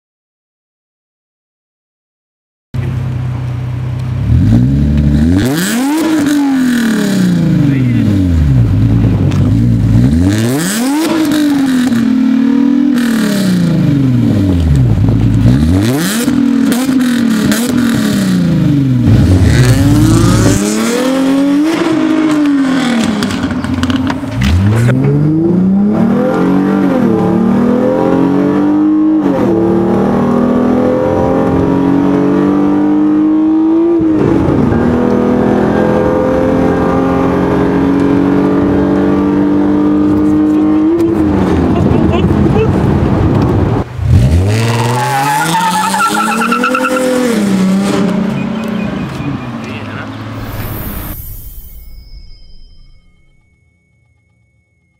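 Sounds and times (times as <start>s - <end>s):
car engine revving: 2.8s - 51.8s
car accelerating with upshifts: 3.9s - 51.2s.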